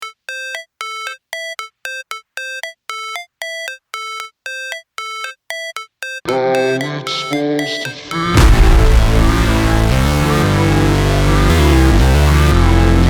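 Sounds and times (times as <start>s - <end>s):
bright synth notes repeating: 0.0s - 13.0s
electronic beat with bass: 0.0s - 13.0s.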